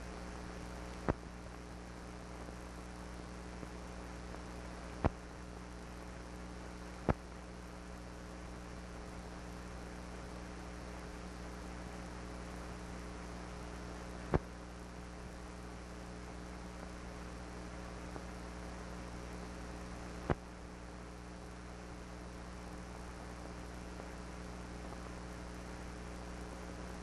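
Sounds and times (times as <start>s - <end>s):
electrical mains hum and hiss: 0.0s - 27.0s.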